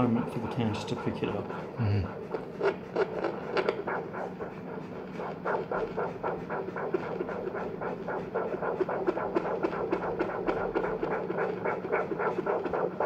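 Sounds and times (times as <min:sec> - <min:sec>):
doppler heartbeat pulse: 0:00.0 - 0:13.0.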